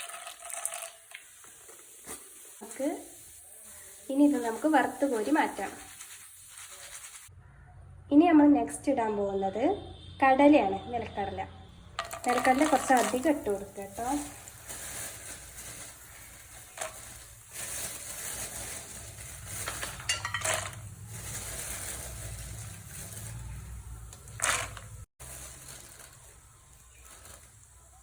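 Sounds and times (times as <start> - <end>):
peanuts sizzling in hot oil: 0.0 - 7.3, 12.0 - 28.0.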